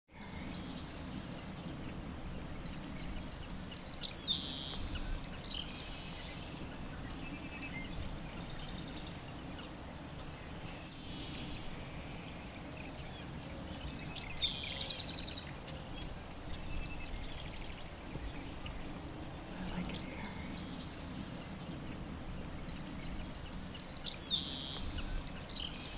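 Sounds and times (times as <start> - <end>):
birds chirping and trilling: 0.1 - 25.9.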